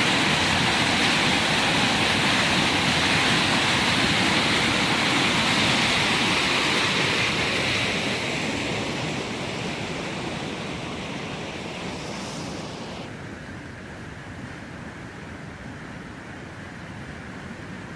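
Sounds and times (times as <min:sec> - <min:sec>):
rushing floodwater: 0:00.0 - 0:17.9.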